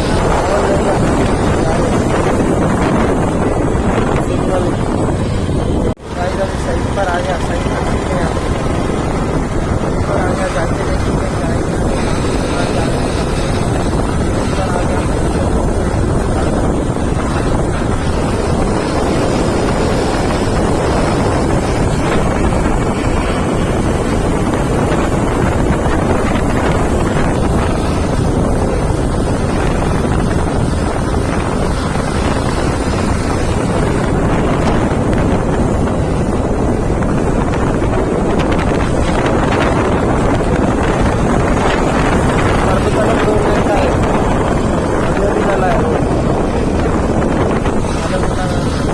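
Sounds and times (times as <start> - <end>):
vehicle and traffic noise: 0.0 - 48.9
wind rushing over microphone: 0.0 - 48.9.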